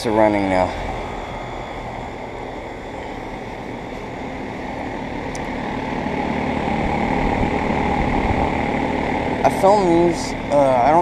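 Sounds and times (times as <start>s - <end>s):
air conditioner fan rush: 0.0s - 11.0s
low compressor hum: 0.0s - 11.0s.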